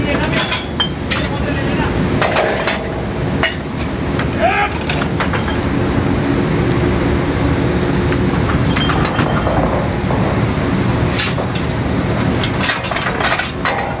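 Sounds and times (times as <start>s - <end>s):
drilling rig machinery rumble: 0.0s - 14.0s.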